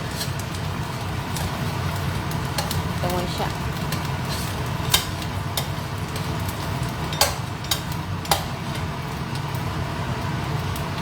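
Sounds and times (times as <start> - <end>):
stir-frying sizzle in wok: 0.0 - 11.0.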